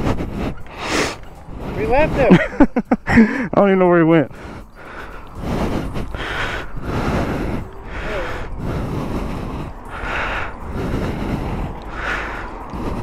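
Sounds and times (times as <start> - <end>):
rider breathing in and out: 0.0 - 2.3, 4.3 - 13.0
low wind rumble: 0.0 - 13.0.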